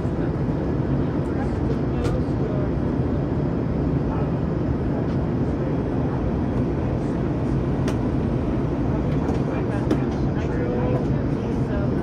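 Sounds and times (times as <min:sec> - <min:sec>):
jet engine cabin drone: 0:00.0 - 0:12.0.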